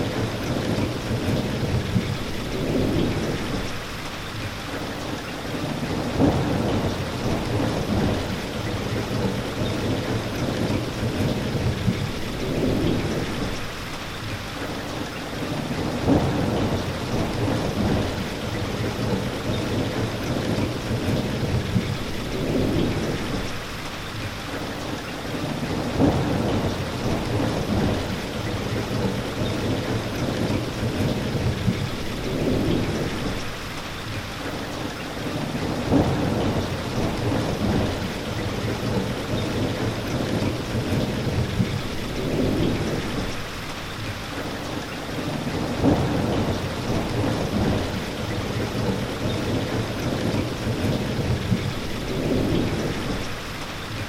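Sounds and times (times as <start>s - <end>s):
low rumbles of thunder: 0.0s - 4.1s, 5.6s - 13.8s, 15.5s - 23.7s, 25.4s - 33.6s, 35.3s - 43.6s, 45.2s - 54.0s
steady rain: 0.0s - 54.0s.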